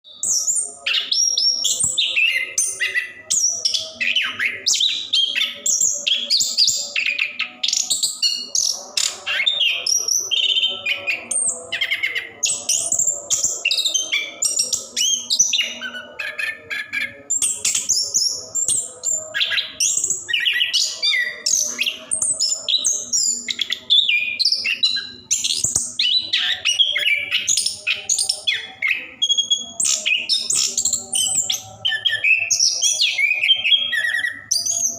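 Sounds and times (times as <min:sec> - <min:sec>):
thrush singing rapid varied phrases: 0:00.1 - 0:34.9.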